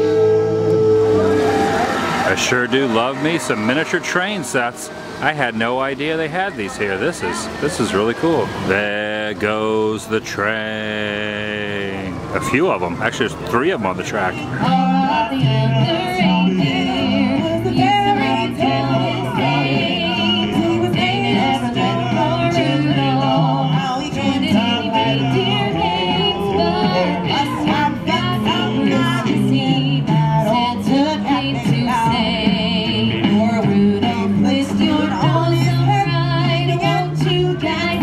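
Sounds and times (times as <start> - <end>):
vocal group singing in harmony: 0.0 - 12.3, 14.1 - 38.0
bass voice holding long notes: 0.0 - 38.0.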